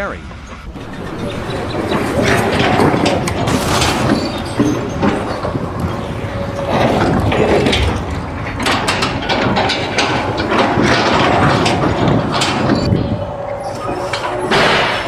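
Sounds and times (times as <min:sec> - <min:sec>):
dense mechanical clattering: 0:00.0 - 0:15.0.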